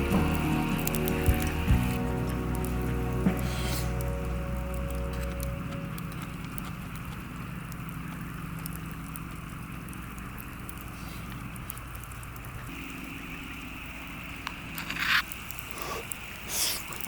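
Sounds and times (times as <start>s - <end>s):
campfire crackling: 0.0s - 17.0s
sharp pops and snaps: 0.0s - 17.0s.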